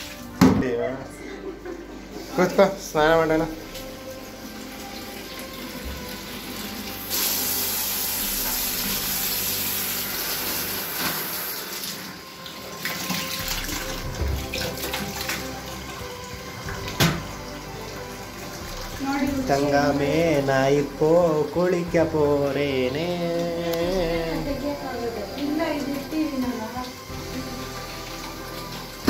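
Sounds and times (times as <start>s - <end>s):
tap water running into bucket: 0.0s - 0.8s, 1.6s - 29.0s.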